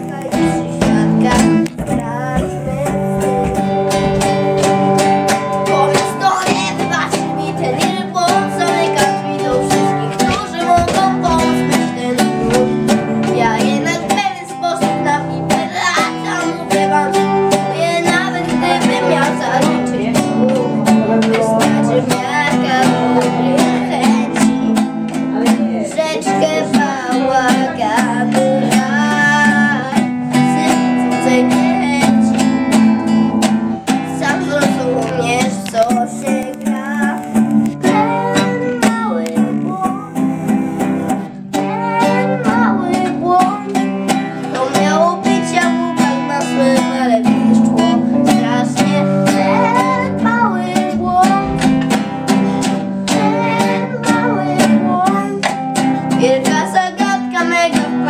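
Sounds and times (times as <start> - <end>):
acoustic guitar strumming: 0.0 - 58.0
boy singing: 0.0 - 58.0.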